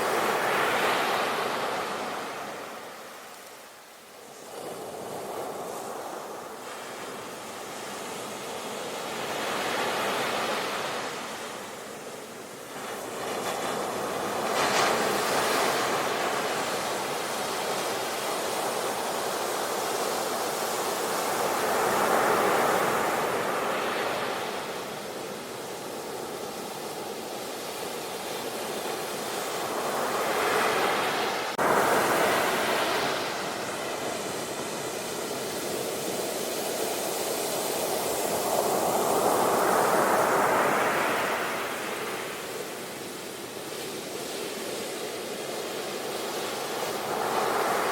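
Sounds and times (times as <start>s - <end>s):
sea waves breaking on shore: 0.0s - 47.9s.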